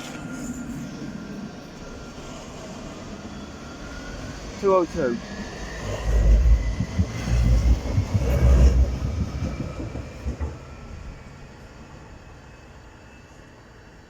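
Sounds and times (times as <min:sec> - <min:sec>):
tram passing with low rumble: 0:00.0 - 0:14.0.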